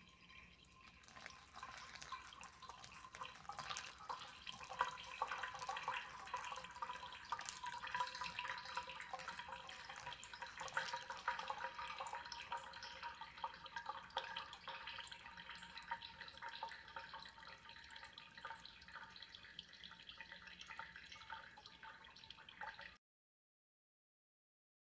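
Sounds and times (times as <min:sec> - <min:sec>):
coffee dripping and fizzing: 0:00.0 - 0:23.0
hot water pouring from kettle: 0:00.0 - 0:23.0.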